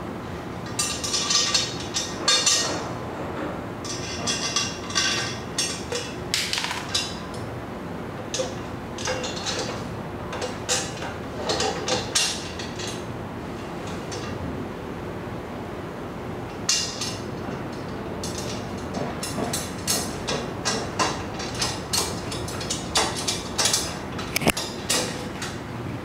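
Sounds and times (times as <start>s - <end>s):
metal pipes clanking: 0.6s - 7.5s, 8.3s - 14.4s, 16.6s - 25.6s.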